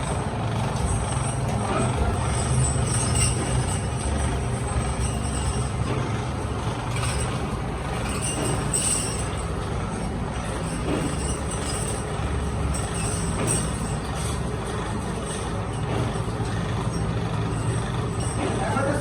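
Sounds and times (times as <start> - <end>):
machinery low hum: 0.0 - 19.0.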